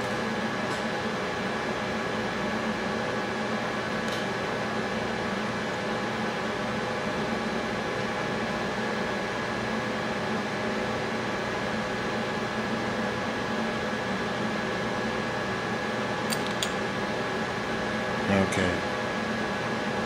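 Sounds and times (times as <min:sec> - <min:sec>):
ventilation fan hum: 0:00.0 - 0:20.0.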